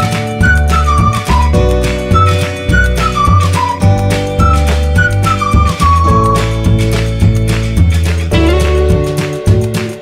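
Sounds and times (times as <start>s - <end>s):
gliding melody over bass beat: 0.0s - 10.0s.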